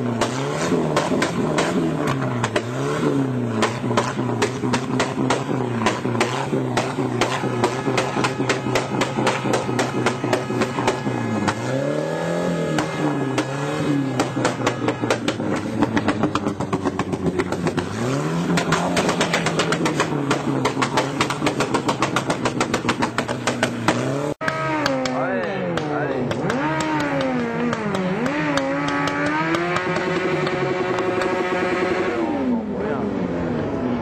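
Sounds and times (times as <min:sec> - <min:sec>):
engine crackling: 0:00.0 - 0:34.0
motorcycle engine revving: 0:00.0 - 0:34.0.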